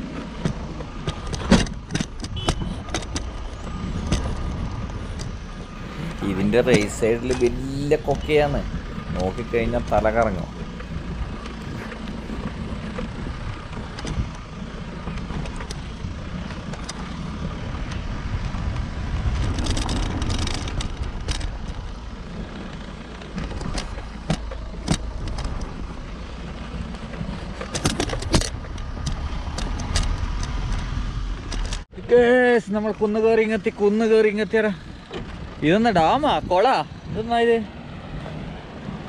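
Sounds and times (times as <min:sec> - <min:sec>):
vehicle rumbling on rough road: 0:00.0 - 0:39.0.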